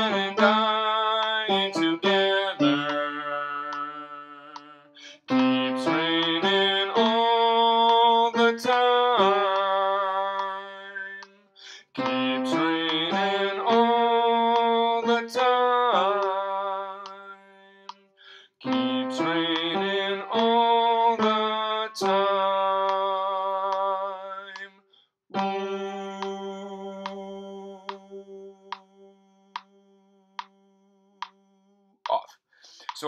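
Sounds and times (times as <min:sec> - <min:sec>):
man singing without words: 0:00.0 - 0:17.9, 0:18.6 - 0:24.8, 0:25.5 - 0:29.8.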